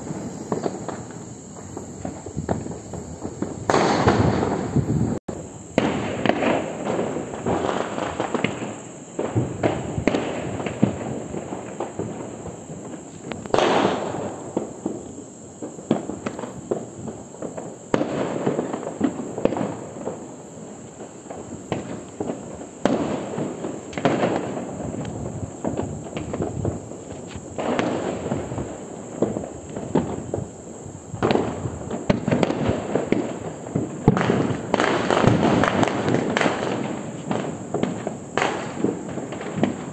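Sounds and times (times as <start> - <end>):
crackle of firework pops: 0.0 - 39.9
fireworks rockets launching and bursting: 0.0 - 39.9
loud firework bangs: 0.0 - 39.9.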